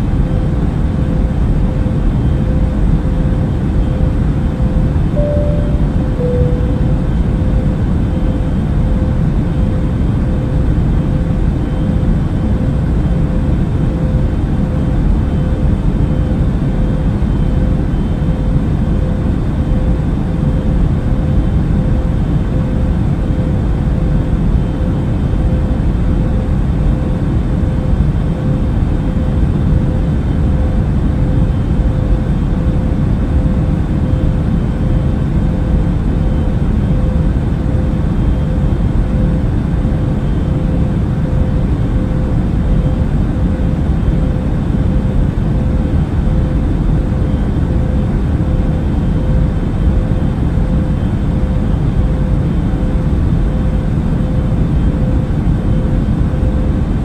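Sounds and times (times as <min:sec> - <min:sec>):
constant hum: 0:00.0 - 0:57.0.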